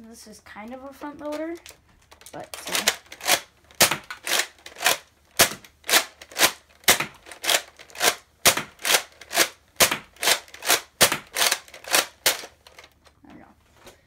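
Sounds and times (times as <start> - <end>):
plastic blaster clacking: 1.2 - 13.0.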